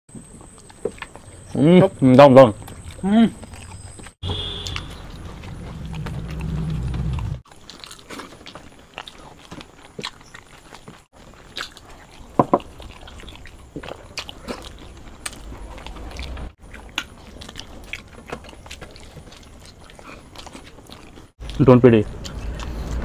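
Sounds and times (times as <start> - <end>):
chewing and biting: 0.1 - 1.6, 2.6 - 23.0.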